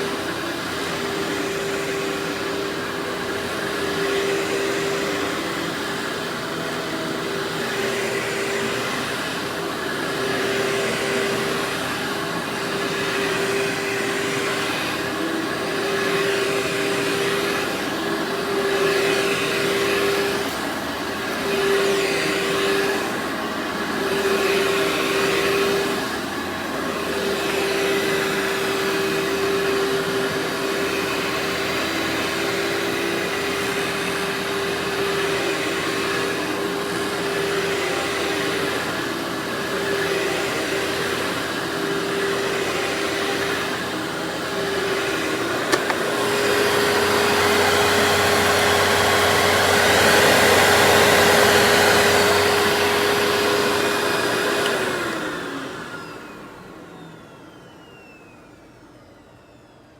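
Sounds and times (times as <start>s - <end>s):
vacuum cleaner running: 0.0s - 59.9s
vacuum motor spinning down: 0.0s - 59.9s.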